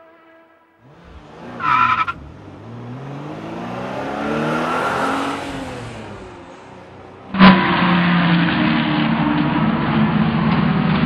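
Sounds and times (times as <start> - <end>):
race car engine: 0.0 - 11.0.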